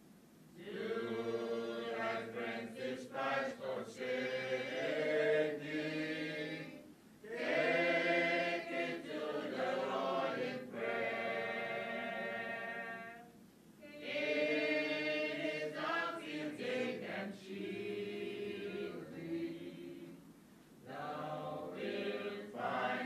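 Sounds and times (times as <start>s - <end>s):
voices singing a chant: 0.6s - 23.0s.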